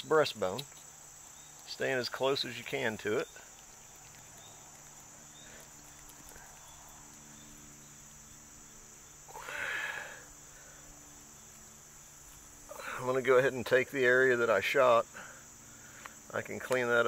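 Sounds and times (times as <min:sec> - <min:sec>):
cricket chorus: 0:00.0 - 0:17.0.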